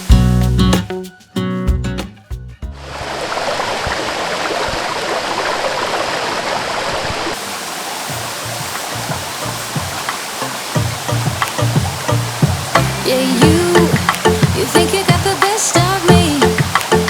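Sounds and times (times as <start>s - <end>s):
stream splashing over rocks: 2.8s - 17.0s.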